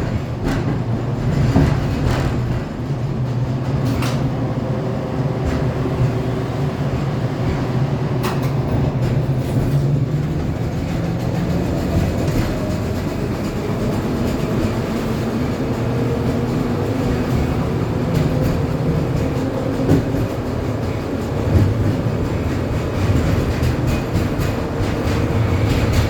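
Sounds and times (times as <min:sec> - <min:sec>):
tram running on rails: 0:00.0 - 0:26.0.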